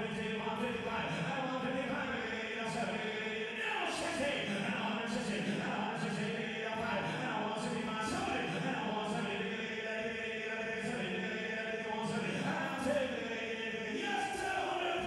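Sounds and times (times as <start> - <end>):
auctioneer chanting bids: 0.0 - 9.7, 10.6 - 15.0.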